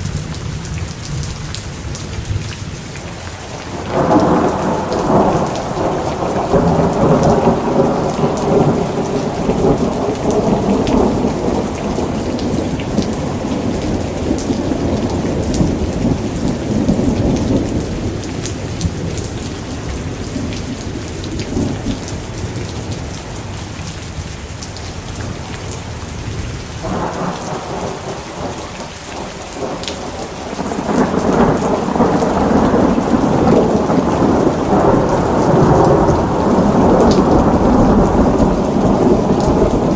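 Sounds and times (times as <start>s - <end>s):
steady rain: 0.0s - 39.9s
rolling thunder: 3.6s - 23.0s, 26.3s - 39.9s.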